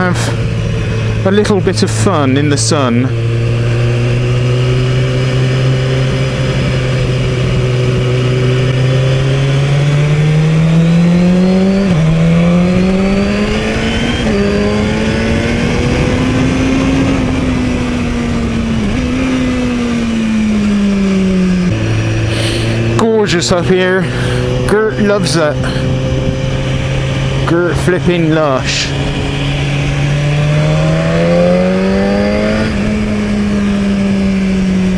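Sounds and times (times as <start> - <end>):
motorcycle engine accelerating: 0.0 - 34.9
wind rushing on helmet: 3.1 - 23.0, 23.8 - 34.9.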